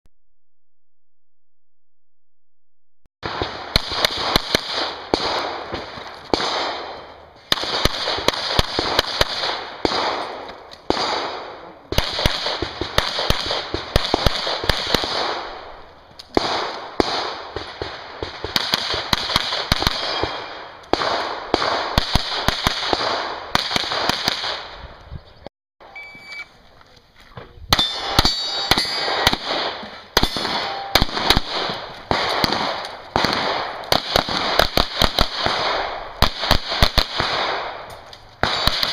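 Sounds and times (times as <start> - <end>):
pistol shots: 3.2 - 24.8, 27.7 - 38.9.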